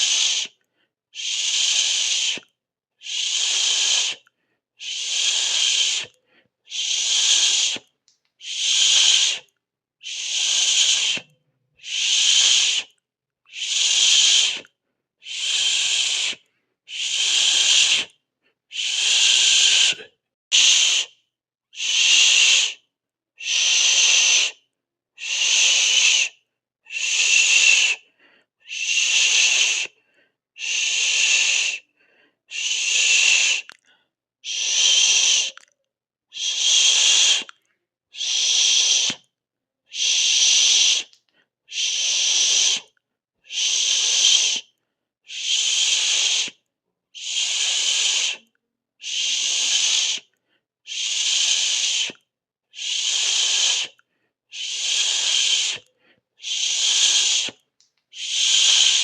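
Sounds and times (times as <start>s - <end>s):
person hissing through teeth: 0.0s - 0.6s, 1.2s - 21.2s, 21.8s - 22.8s, 23.4s - 24.6s, 25.2s - 28.0s, 28.6s - 30.0s, 30.6s - 31.9s, 32.5s - 33.8s, 34.4s - 35.7s, 36.3s - 39.3s, 39.9s - 44.7s, 45.3s - 46.6s, 47.2s - 50.3s, 50.9s - 59.0s.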